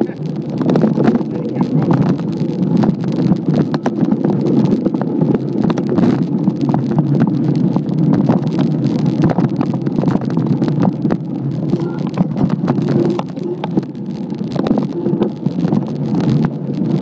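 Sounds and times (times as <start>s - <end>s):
bike rattles and knocks: 0.0s - 17.0s
bike tyres rumbling on trail: 0.0s - 17.0s
wind buffeting microphone: 0.0s - 17.0s.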